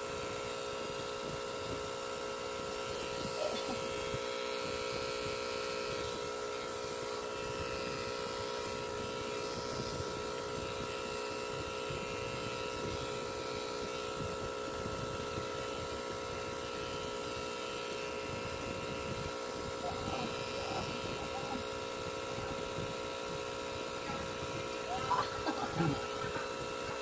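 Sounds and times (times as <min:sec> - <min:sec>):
tattoo pen electric hum: 0:00.0 - 0:27.0.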